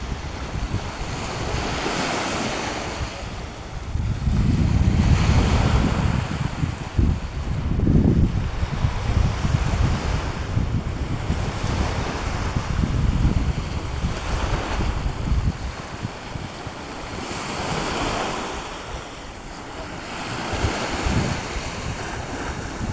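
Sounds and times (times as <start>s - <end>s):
small waves breaking on beach: 0.0s - 7.6s, 8.4s - 22.9s
wind buffeting microphone: 0.0s - 22.9s.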